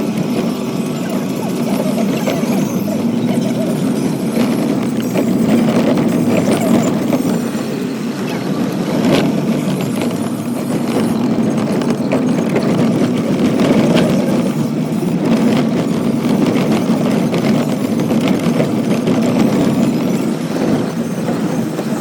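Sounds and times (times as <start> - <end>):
knocks and rattles: 0.0 - 7.9, 8.6 - 22.0
vehicle engine running: 0.0 - 22.0.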